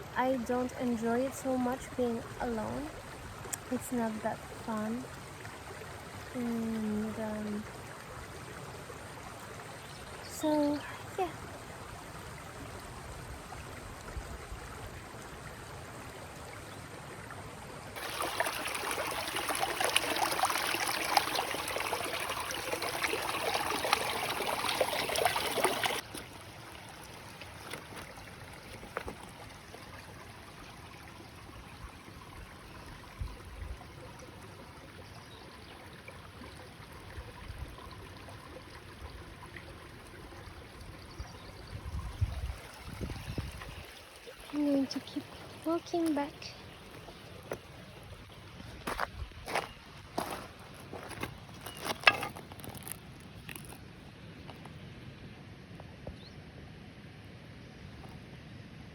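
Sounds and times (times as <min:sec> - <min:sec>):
stream flowing over rocks: 0:00.0 - 0:54.8.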